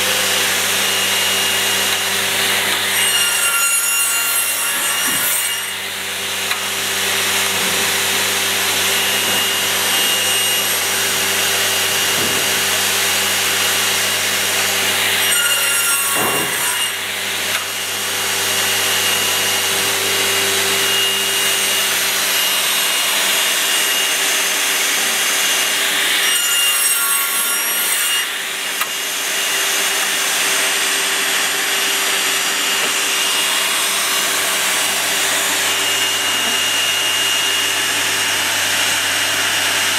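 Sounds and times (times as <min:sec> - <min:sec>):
mitre saw cutting wood: 0:00.0 - 0:39.9.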